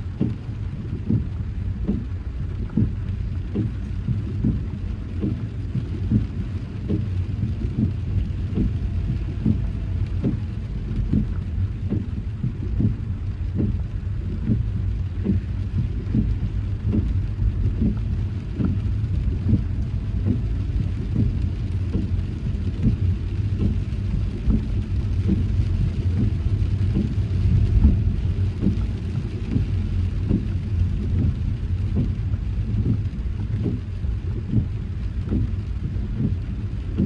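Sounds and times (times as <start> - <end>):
car engine and road rumble: 0.0 - 37.0
raindrops tapping on car: 0.0 - 37.0.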